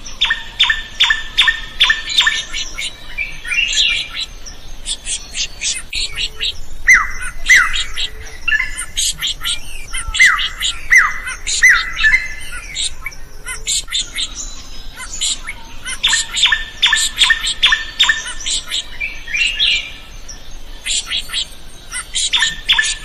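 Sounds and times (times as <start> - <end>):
bird singing: 0.0 - 23.0.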